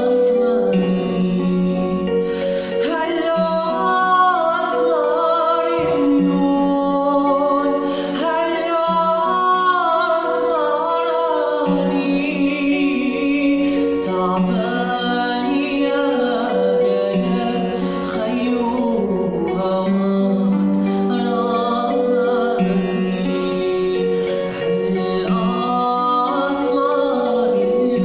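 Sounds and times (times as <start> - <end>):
electronic keyboard chords: 0.0 - 28.0
man singing: 0.0 - 28.0.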